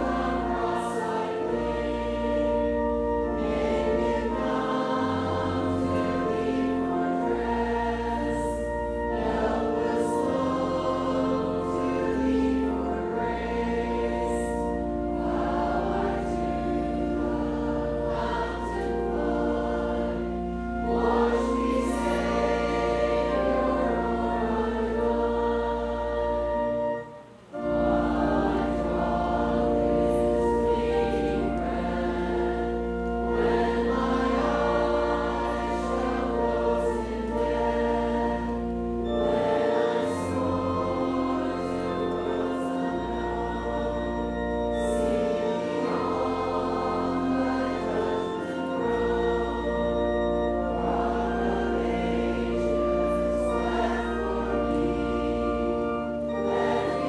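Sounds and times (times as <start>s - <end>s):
congregation singing a hymn: 0.0s - 57.0s
instrumental accompaniment: 0.0s - 57.0s.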